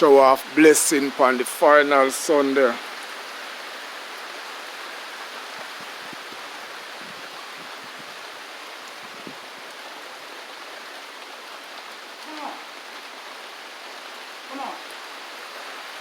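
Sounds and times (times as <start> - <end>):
rain falling steadily: 0.0 - 16.0.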